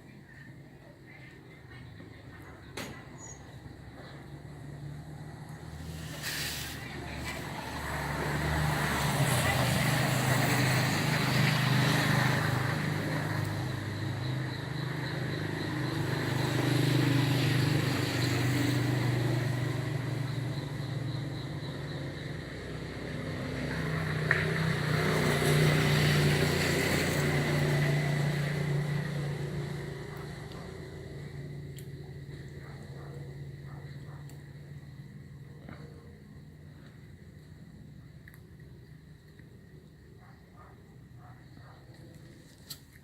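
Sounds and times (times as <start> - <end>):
vehicle engine humming: 1.7 - 42.4.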